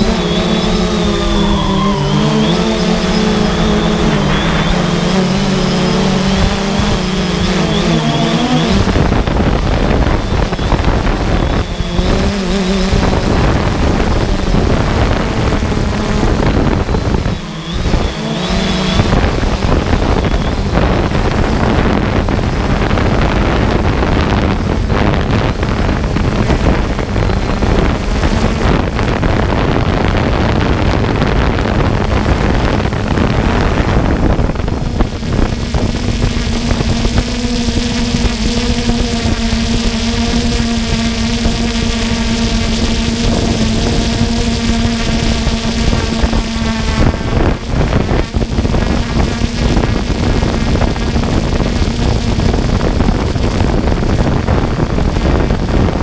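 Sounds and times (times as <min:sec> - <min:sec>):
drone motor whine: 0:00.0 - 0:56.0
propeller and wind rushing: 0:00.0 - 0:56.0.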